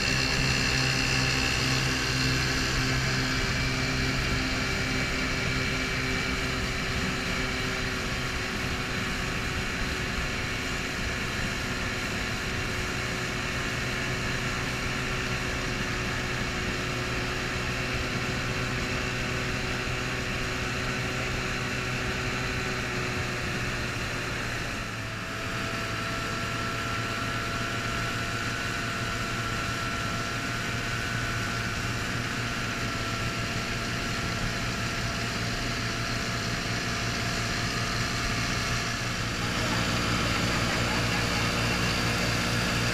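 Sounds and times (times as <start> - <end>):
outboard motors running: 0.0 - 42.9.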